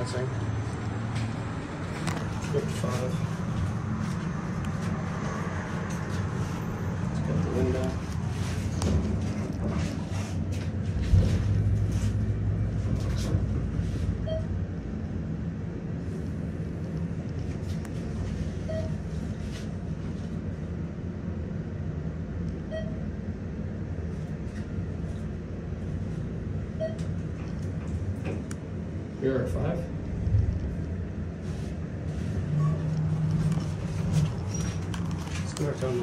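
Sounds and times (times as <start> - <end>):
elevator humming: 0.0 - 36.0.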